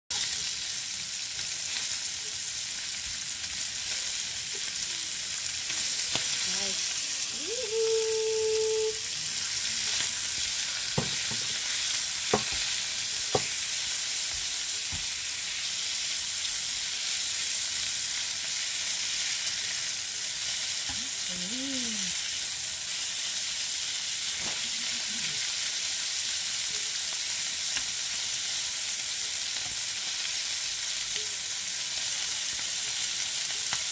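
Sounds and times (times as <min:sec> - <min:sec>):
food sizzling in a pan: 0:00.1 - 0:33.9.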